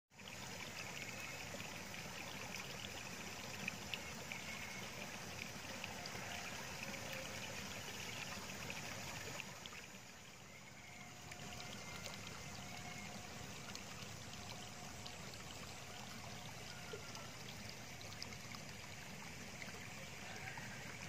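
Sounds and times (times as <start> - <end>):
water trickling along a channel: 0.1 - 21.0.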